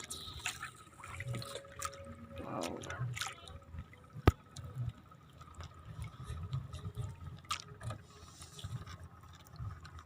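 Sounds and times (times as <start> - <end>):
water sloshing and dripping: 0.0 - 10.0.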